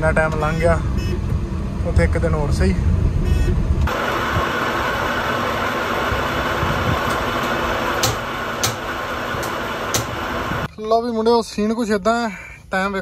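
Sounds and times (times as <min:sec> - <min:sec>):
car cabin road noise: 0:00.0 - 0:10.7.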